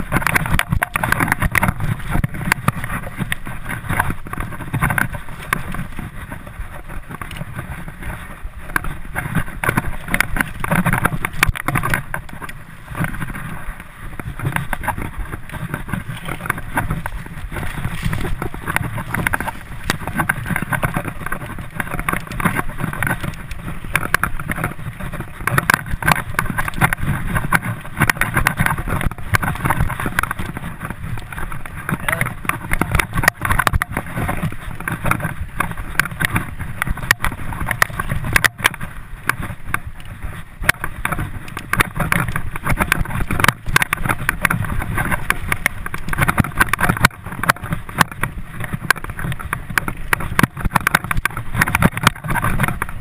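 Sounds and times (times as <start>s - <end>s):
bike rattling and knocking: 0.0s - 53.0s
tyres rumbling over dirt: 0.0s - 53.0s
wind buffeting microphone: 0.0s - 53.0s.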